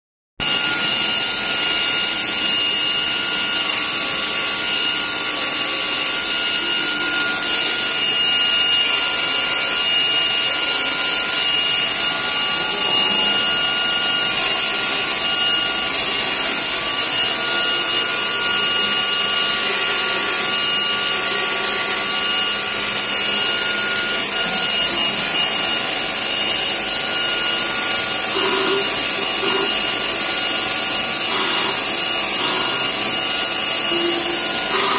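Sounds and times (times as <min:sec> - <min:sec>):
cnc router cutting wood: 0:00.4 - 0:34.9
high whine of spindle: 0:00.4 - 0:34.9.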